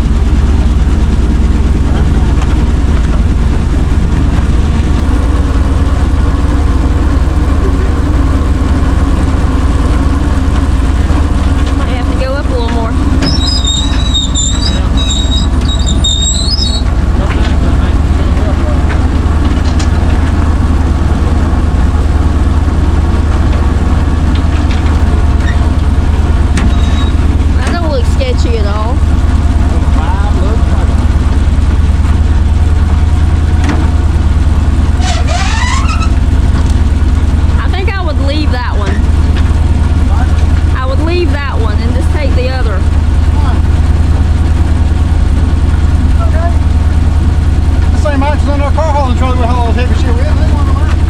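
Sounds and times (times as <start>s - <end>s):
truck engine running: 0.0s - 51.0s.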